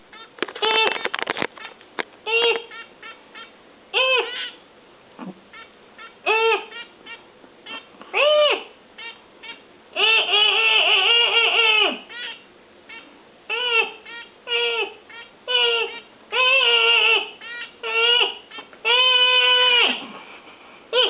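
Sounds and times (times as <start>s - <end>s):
person making hooting bird calls: 0.0s - 1.1s, 2.2s - 4.6s, 5.2s - 21.0s.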